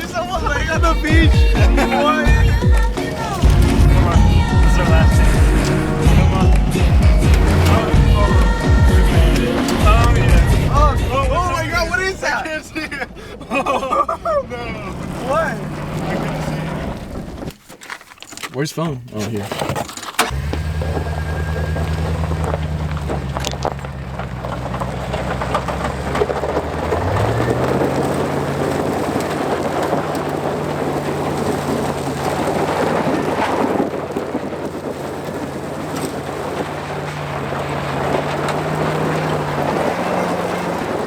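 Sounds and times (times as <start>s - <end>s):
tyre noise: 0.0s - 13.0s, 13.6s - 41.0s
off-road vehicle engine running: 0.0s - 17.6s, 18.6s - 41.0s.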